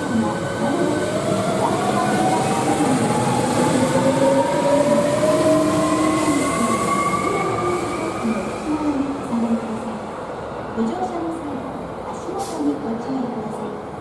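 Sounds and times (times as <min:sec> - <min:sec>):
train rolling noise: 0:00.0 - 0:14.0.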